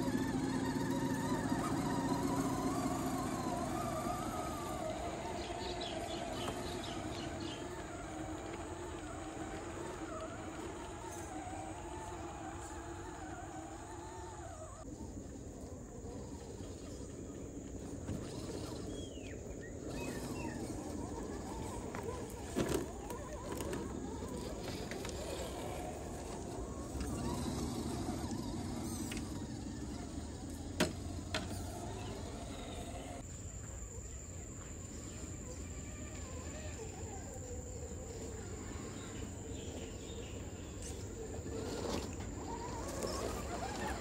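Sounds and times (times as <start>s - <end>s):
tyres grinding over dirt: 0.0s - 15.4s, 16.0s - 33.3s, 34.7s - 44.0s
small electric motor whine: 0.0s - 44.0s.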